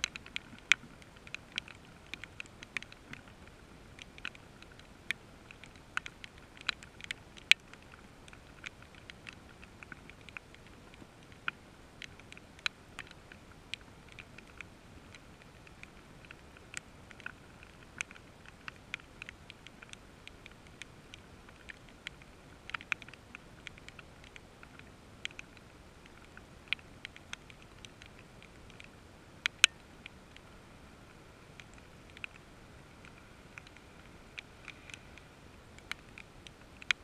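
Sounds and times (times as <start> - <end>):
raindrops tapping on hard surface: 0.0 - 30.5
faint steady hiss: 0.0 - 37.0.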